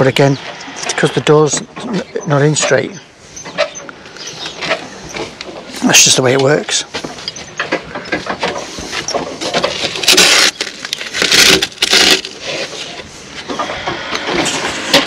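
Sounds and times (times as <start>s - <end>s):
handling scraping and rustling: 0.0s - 15.0s.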